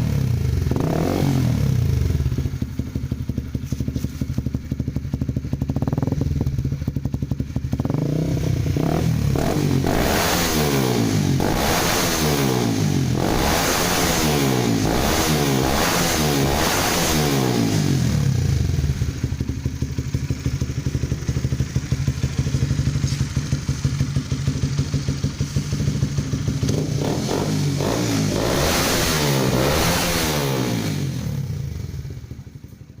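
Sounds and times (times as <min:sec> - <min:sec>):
motorcycle engine revving and idling: 0:00.0 - 0:33.0.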